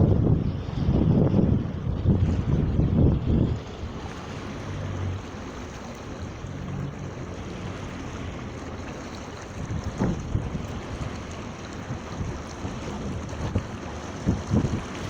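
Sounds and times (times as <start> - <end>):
water rushing past a hull: 0.0 - 15.0
wind buffeting microphone: 0.0 - 15.0.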